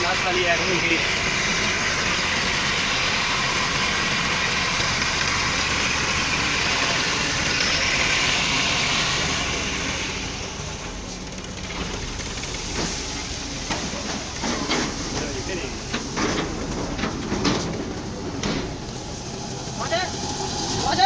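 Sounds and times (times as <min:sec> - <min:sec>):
low engine hum: 0:00.0 - 0:21.0
thresher rushing noise: 0:00.0 - 0:21.0.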